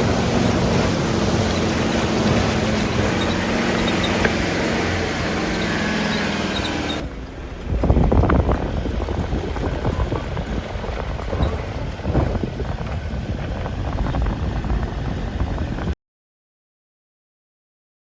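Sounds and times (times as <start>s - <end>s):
vehicle engine and tyres rumbling: 0.0s - 16.0s
wind buffeting microphone: 0.0s - 16.0s.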